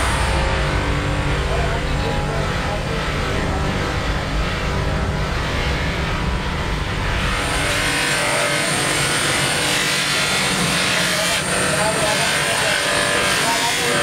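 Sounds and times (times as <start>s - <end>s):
polishing motor humming: 0.0s - 14.0s.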